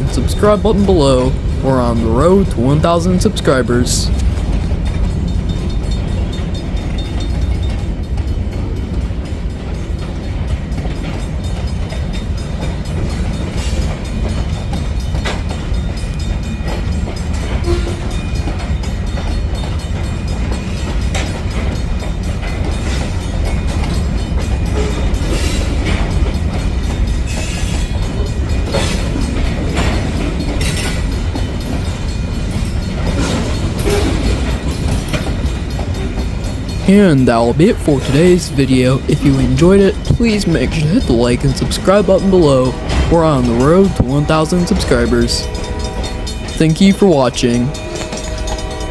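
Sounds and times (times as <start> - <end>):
freight train rumbling: 0.0 - 48.9
wheels clicking over rail joints: 0.0 - 48.9.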